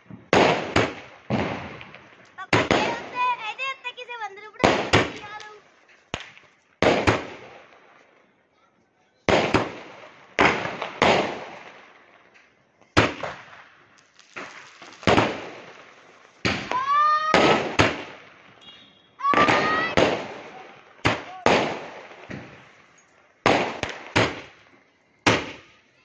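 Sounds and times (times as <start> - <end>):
firework shells bursting: 0.0 - 8.2, 9.3 - 26.0.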